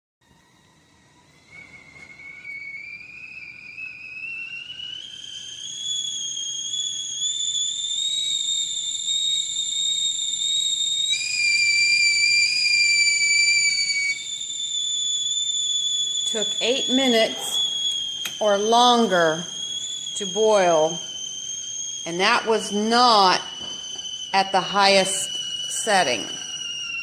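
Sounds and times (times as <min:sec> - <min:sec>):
stovetop kettle whistling: 0:00.2 - 0:27.0.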